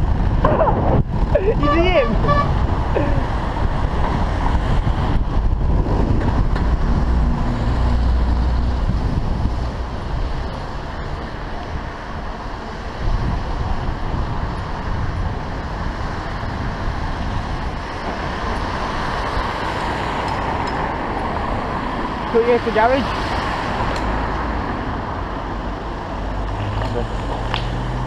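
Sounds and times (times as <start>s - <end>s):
road and wind noise of riding: 0.0s - 28.0s.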